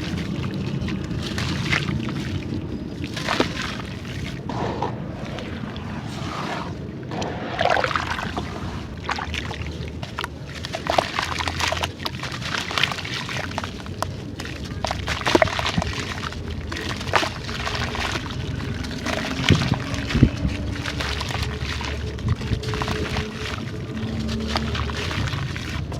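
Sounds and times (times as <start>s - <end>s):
gritty clay crackling: 0.0s - 25.9s
water sloshing and trickling: 0.0s - 25.9s.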